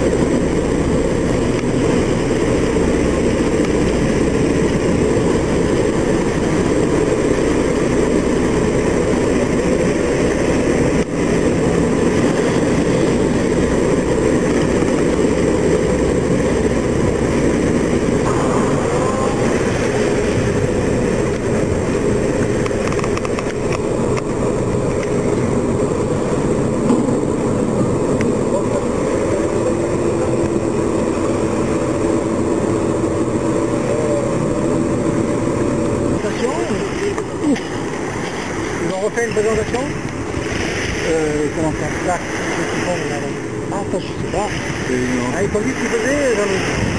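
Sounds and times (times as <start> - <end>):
boat engines rumbling: 0.0 - 46.9
faint steady hum: 0.0 - 46.9.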